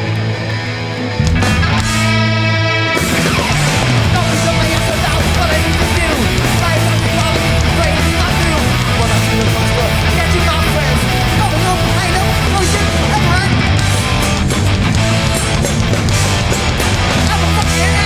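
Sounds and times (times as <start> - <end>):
punk band playing live: 0.0 - 18.0.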